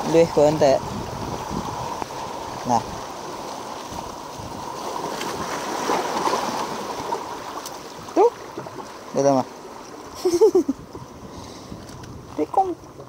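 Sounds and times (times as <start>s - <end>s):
sea water rushing among boulders: 0.0s - 13.0s.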